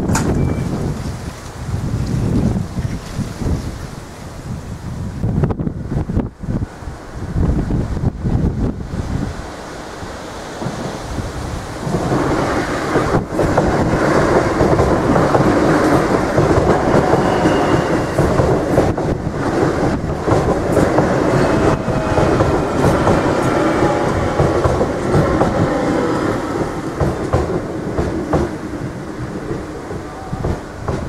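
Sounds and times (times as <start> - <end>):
electric train passing: 5.5 - 31.0.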